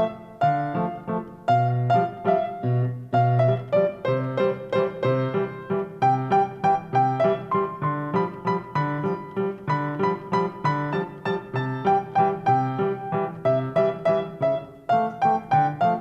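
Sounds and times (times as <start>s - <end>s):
lively piano piece: 0.0s - 16.0s.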